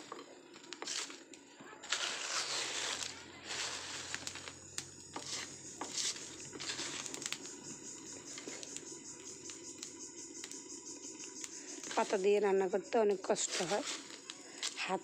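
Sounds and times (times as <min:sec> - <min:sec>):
burning leaves crackling: 0:00.0 - 0:15.0.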